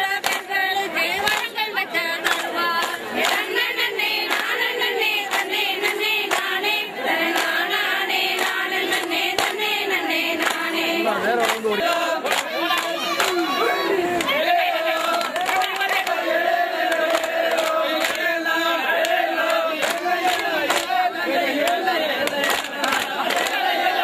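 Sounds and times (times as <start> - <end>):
handclaps: 0.0 - 24.0
women singing together: 0.0 - 24.0.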